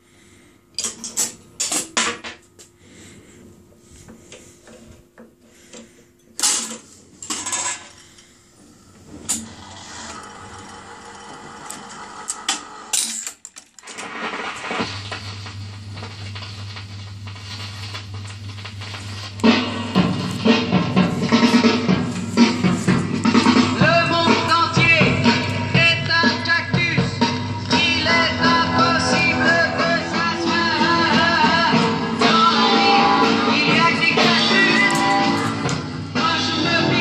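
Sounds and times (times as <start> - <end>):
amplifier hum and hiss: 0.0 - 37.0
record playing: 3.0 - 13.2, 13.8 - 37.0.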